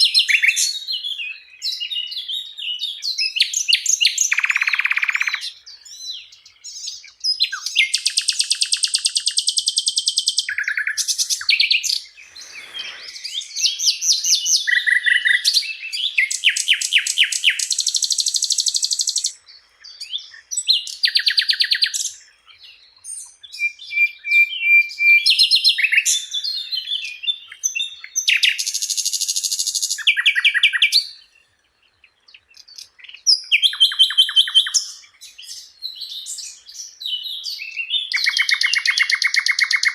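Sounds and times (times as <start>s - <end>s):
flycatcher singing trills: 0.0s - 39.9s.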